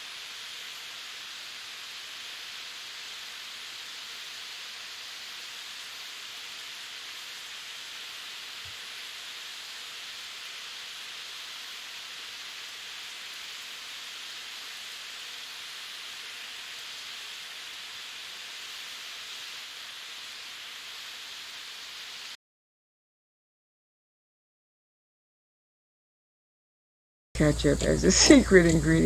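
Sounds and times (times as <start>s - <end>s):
meat and vegetables sizzling: 0.0s - 22.4s, 27.4s - 29.0s.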